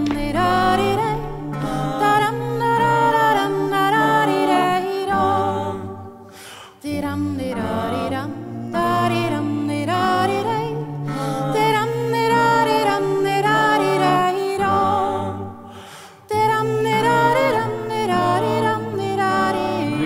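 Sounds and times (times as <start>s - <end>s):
voices singing a cappella: 0.0s - 20.0s.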